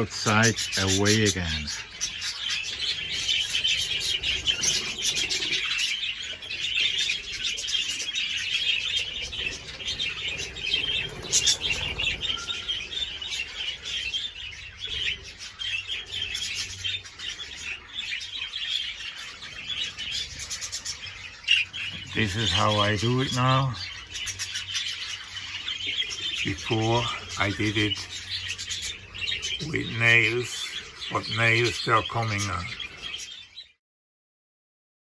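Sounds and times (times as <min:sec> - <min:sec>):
budgerigars chattering and chirping: 0:00.0 - 0:33.8.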